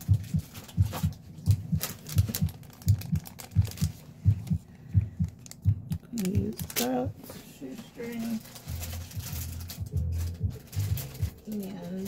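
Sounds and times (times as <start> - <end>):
faint clicks and rustles: 0.0 - 12.0.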